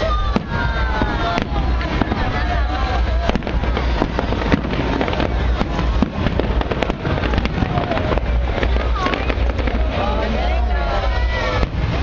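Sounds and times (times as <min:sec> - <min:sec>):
deep fireworks booms: 0:00.0 - 0:12.0
fireworks bangs and crackles: 0:00.0 - 0:12.0.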